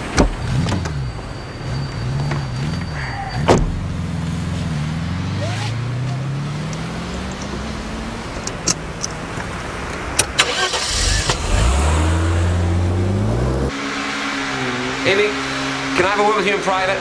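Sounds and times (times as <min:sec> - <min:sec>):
car engine accelerating: 0:00.3 - 0:09.2, 0:10.4 - 0:17.0.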